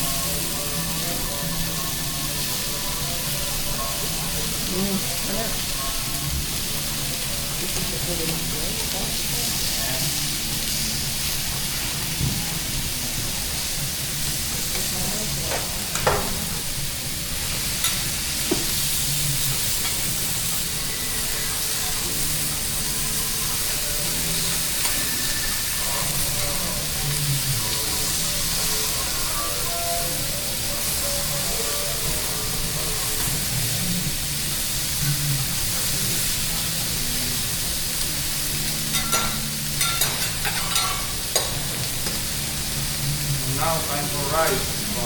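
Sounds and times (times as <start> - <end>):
food sizzling on a griddle: 0.0 - 45.0.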